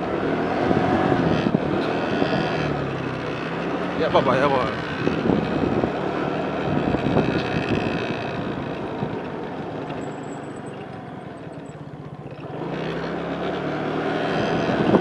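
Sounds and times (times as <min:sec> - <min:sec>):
road noise: 0:00.0 - 0:15.0
vehicle engine: 0:00.0 - 0:15.0.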